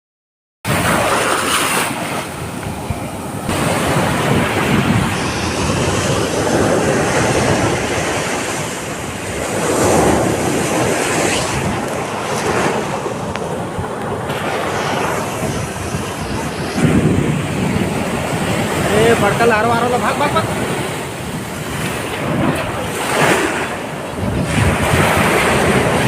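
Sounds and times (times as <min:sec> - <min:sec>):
sea waves breaking on shore: 0:00.7 - 0:26.0
wind on microphone: 0:00.7 - 0:26.0.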